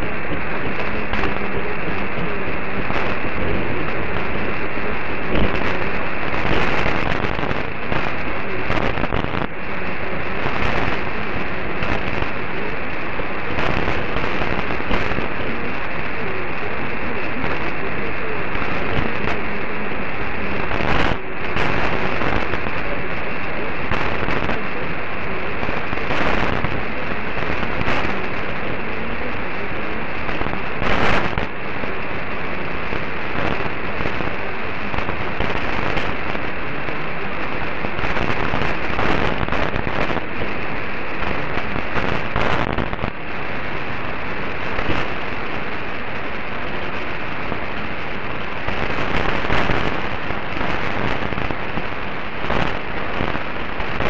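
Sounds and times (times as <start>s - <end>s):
radio static hiss: 0.0s - 54.0s
static crackling crashes: 0.0s - 54.0s.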